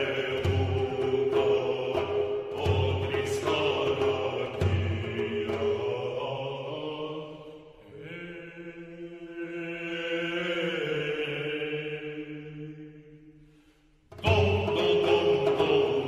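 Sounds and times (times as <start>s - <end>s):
slow chant-like singing: 0.0s - 16.0s.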